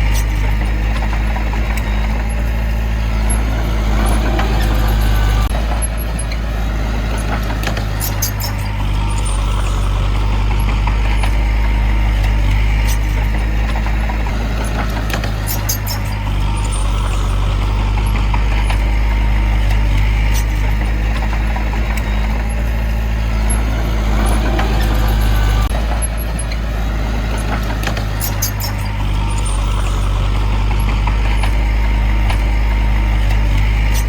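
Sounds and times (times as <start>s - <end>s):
heavy diesel engine running: 0.0s - 34.0s
metallic squeaks and clinks: 0.0s - 34.0s.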